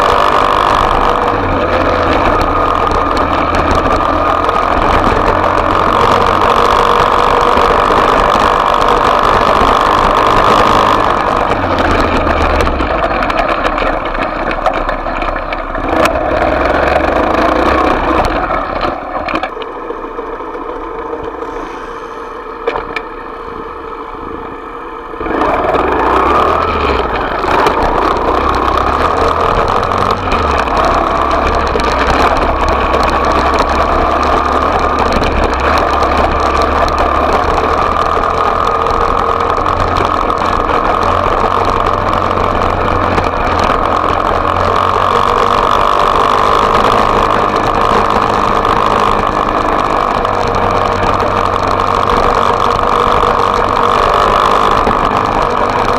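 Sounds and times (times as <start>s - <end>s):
motorbike engine running: 0.0s - 55.9s.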